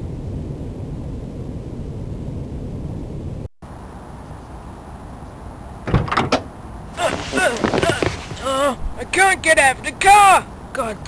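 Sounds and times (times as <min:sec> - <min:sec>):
low rumbling vehicle noise: 0:00.0 - 0:11.0.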